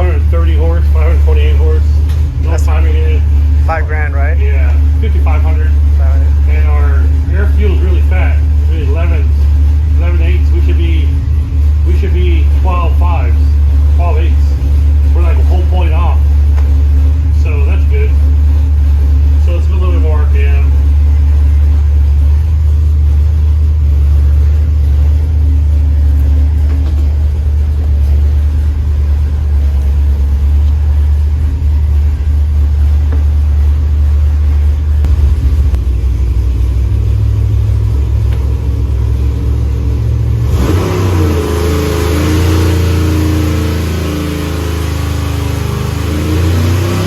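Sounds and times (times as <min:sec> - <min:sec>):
v eight engine running on dyno: 0:00.0 - 0:47.0.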